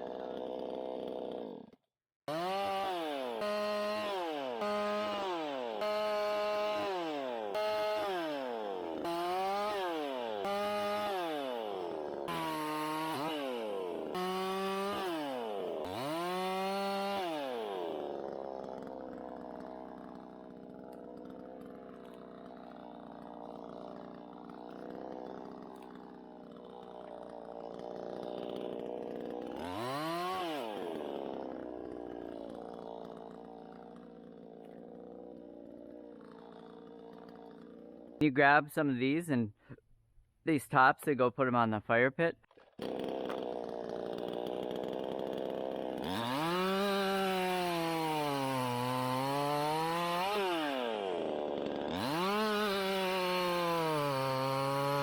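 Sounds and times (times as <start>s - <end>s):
chainsaw revving: 0.0s - 38.3s, 42.5s - 55.0s.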